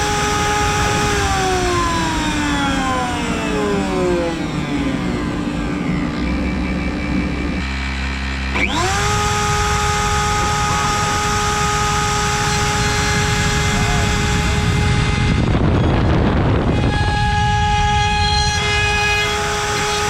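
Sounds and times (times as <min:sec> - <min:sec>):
machine hum: 0:00.0 - 0:20.0
router spindle whine: 0:00.0 - 0:20.0.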